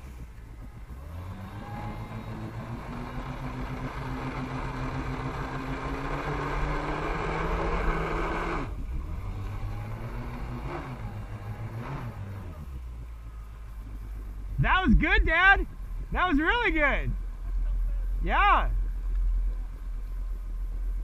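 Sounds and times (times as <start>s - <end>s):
jet ski engine revving: 0.0s - 18.2s
engine throttle blips: 0.0s - 21.0s.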